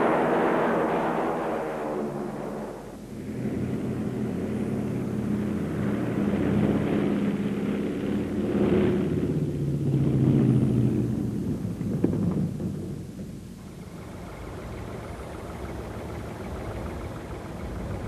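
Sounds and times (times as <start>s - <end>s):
aircraft piston engines running: 0.0s - 18.0s.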